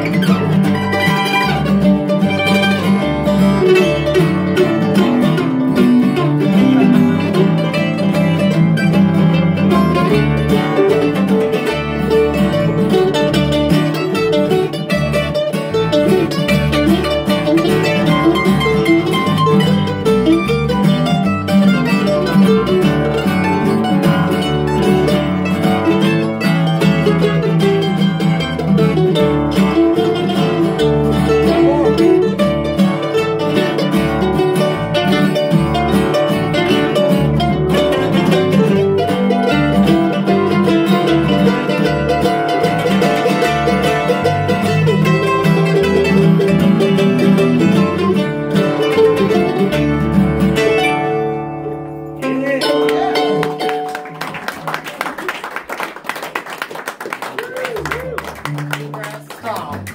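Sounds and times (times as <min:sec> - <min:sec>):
acoustic guitar: 0:00.0 - 0:59.9
fast picked mandolin: 0:00.0 - 0:59.9.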